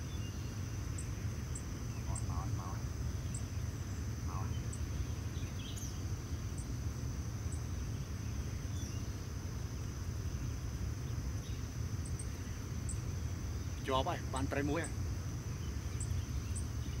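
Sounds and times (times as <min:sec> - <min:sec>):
high-pitched insect drone: 0:00.0 - 0:17.0
short high insect chirps: 0:00.0 - 0:17.0.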